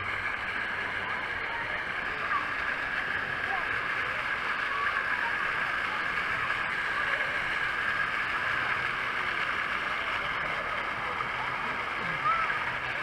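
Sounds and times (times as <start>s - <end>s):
faint distant voices: 0.0s - 13.0s
pool water rushing: 0.0s - 13.0s.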